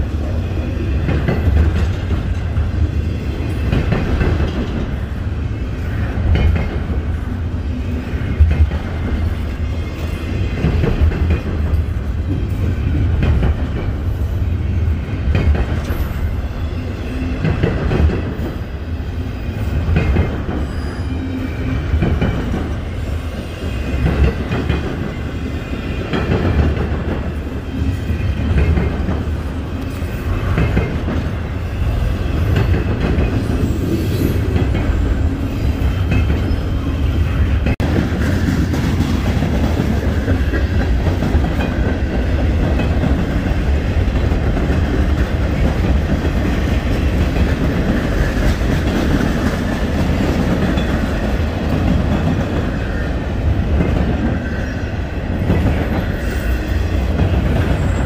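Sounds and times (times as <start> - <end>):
clickety-clack over rail joints: 0.0 - 7.2, 8.2 - 14.4, 15.0 - 16.4, 17.2 - 18.8, 19.5 - 20.9, 21.8 - 23.0, 23.6 - 36.6, 37.5 - 58.0
train wheels rumbling on rails: 0.0 - 58.0.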